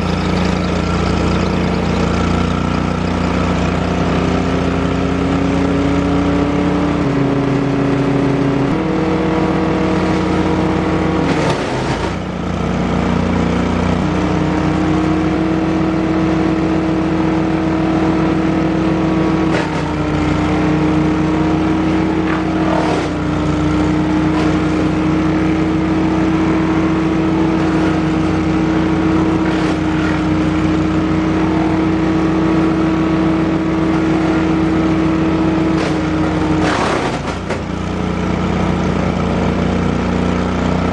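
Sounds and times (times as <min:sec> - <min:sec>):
wood chipper engine running: 0:00.0 - 0:40.9
wood going through chipper: 0:00.0 - 0:40.9.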